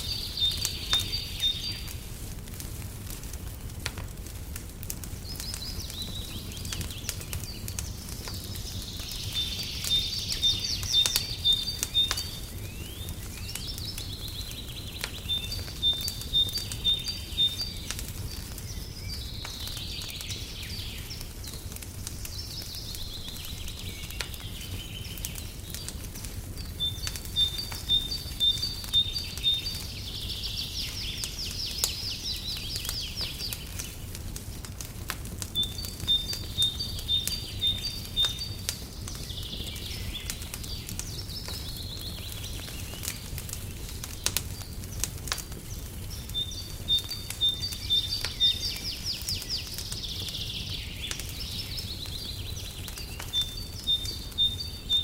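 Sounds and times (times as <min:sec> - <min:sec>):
songbird singing with trill: 0:00.0 - 0:01.9, 0:05.2 - 0:34.0, 0:35.6 - 0:43.3, 0:45.6 - 0:55.0
fireplace fire crackling: 0:00.0 - 0:55.0.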